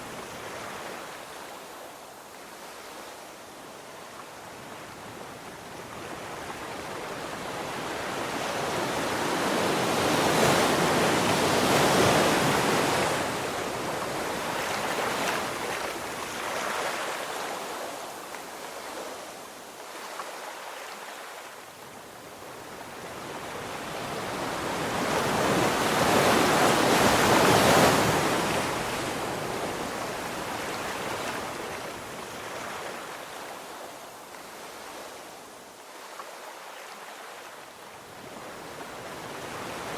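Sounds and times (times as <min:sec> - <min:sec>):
ocean waves crashing on beach: 0:04.3 - 0:39.9.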